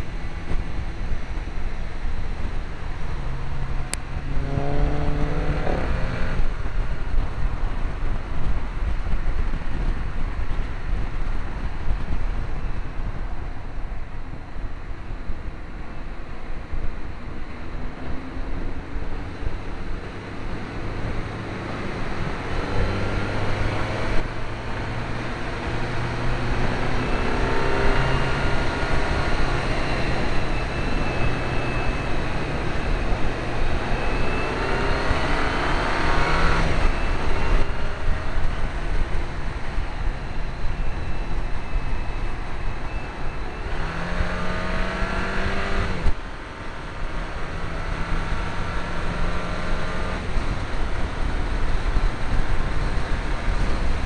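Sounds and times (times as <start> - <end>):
car engine accelerating hard: 0.0 - 12.1, 18.1 - 54.0
road noise: 0.0 - 54.0
wind noise: 0.0 - 54.0.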